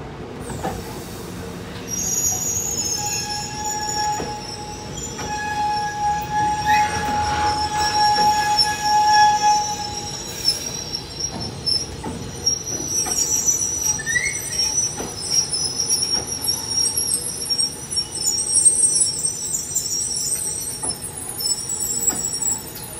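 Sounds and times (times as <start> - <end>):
train wheels squealing: 0.5 - 22.9.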